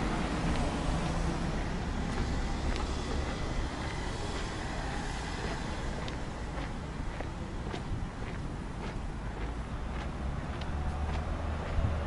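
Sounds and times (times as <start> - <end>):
traffic rumble: 0.0 - 12.0
footsteps on paving stones: 0.4 - 12.0.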